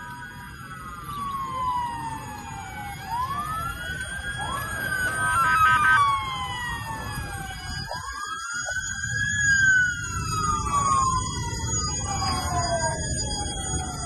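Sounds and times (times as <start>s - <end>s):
distant city rumble: 0.0s - 14.0s
emergency sirens wailing: 0.0s - 14.0s.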